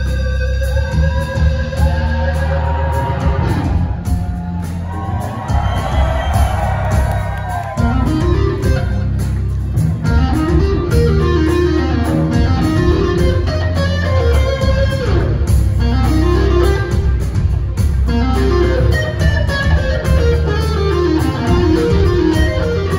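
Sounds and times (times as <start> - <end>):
bass guitar: 0.0 - 22.9
drums: 0.0 - 22.9
electric guitar: 0.0 - 22.9.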